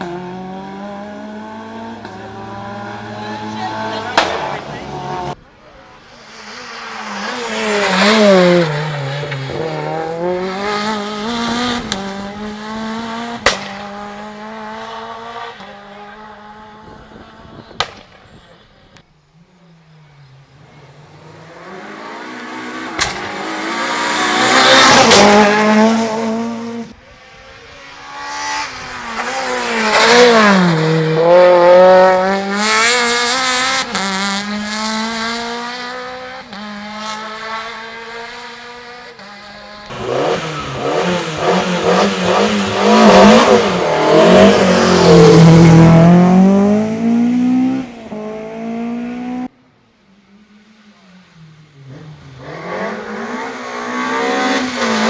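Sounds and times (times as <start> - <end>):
rally cars racing past: 0.0 - 49.6, 50.3 - 55.0.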